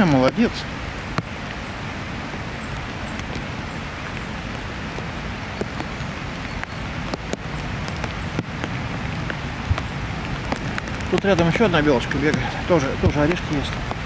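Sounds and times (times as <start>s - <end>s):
heavy rain: 0.0s - 14.0s
raindrops ticking close by: 0.0s - 14.0s.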